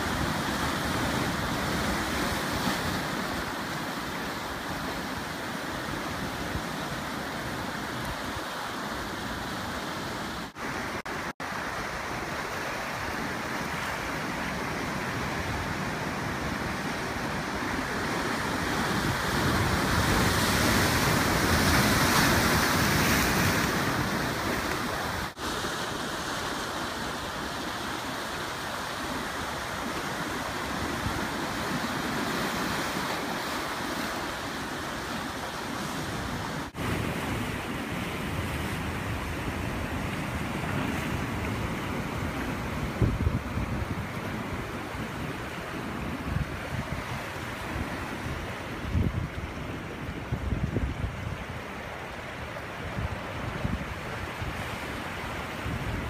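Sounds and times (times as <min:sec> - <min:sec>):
ocean surf breaking on shore: 0:00.0 - 0:56.0.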